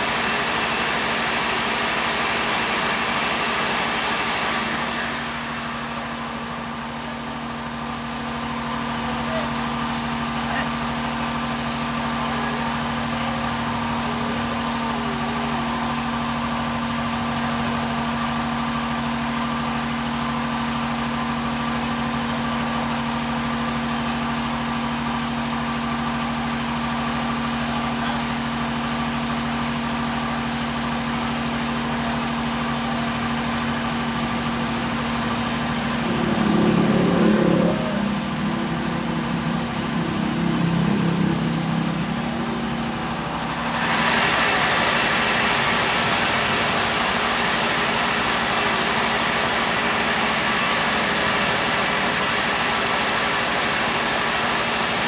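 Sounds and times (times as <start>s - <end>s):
engine humming: 4.7s - 55.0s.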